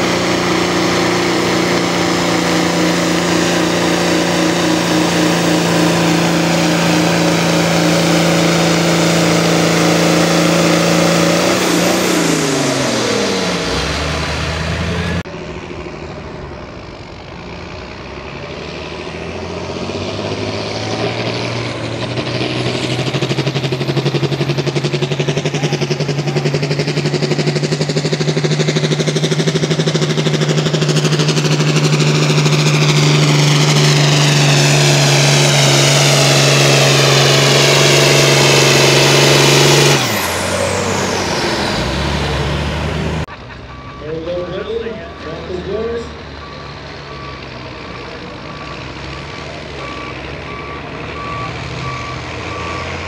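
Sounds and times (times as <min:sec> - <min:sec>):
tractor engine running hard: 0:00.0 - 0:53.0.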